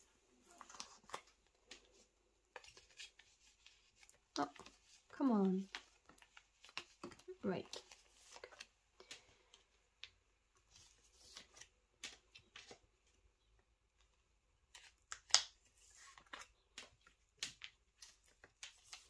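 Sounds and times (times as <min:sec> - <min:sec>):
cards rustling in plastic pockets: 0:00.4 - 0:19.0.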